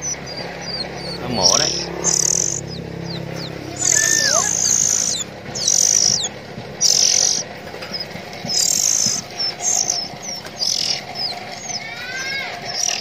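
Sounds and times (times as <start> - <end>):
harsh hissy bird begging calls: 0.0 - 13.0.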